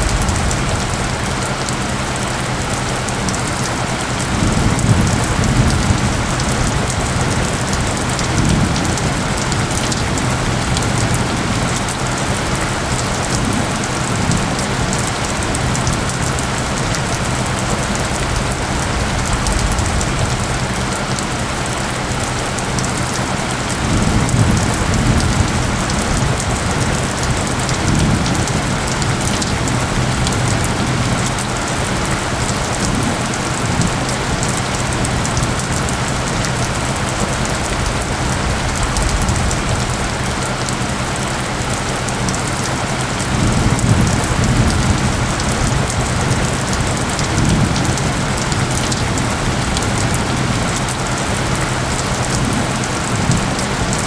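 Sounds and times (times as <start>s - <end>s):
heavy rain falling: 0.0s - 54.0s
low rumbles of thunder: 0.0s - 54.0s.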